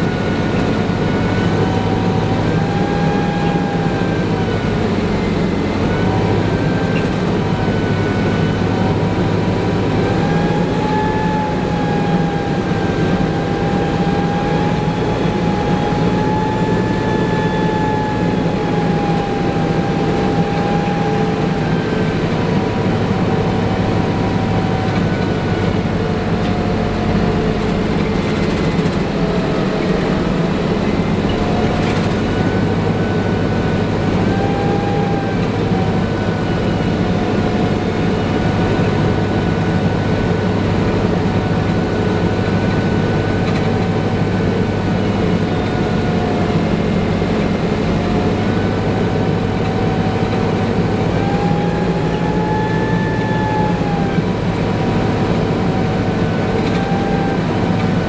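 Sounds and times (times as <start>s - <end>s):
bus engine drone: 0.0s - 58.0s
transmission whine: 0.0s - 58.0s.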